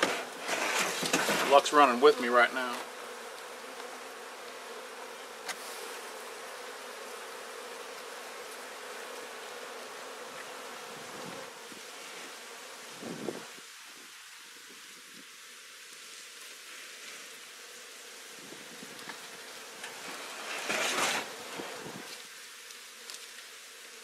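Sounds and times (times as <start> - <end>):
bees buzzing: 0.0 - 15.1, 17.2 - 24.0.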